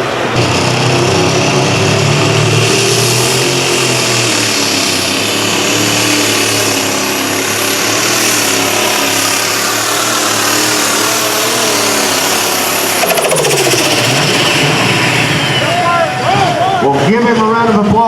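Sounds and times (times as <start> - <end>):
tractor engine running hard: 0.0 - 18.0.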